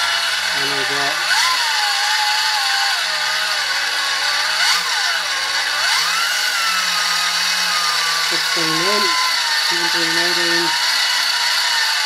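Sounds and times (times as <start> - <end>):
electric drill motor whine: 0.0 - 12.0.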